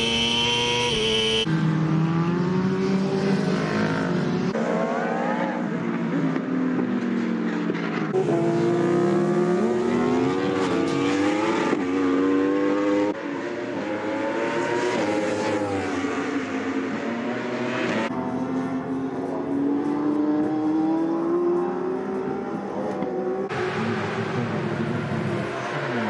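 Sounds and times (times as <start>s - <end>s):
racing motorcycle engines revving: 0.0s - 26.0s.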